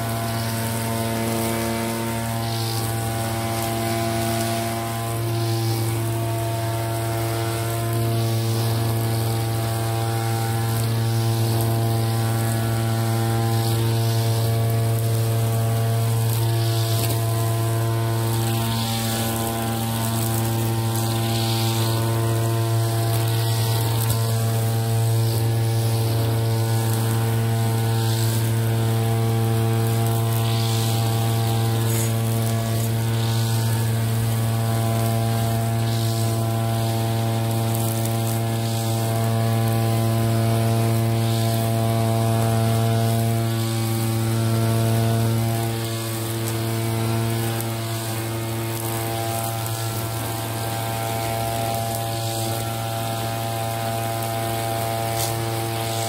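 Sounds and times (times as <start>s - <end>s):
brush cutter engine running: 0.0s - 56.0s
cutting line swishing through grass: 0.0s - 56.0s.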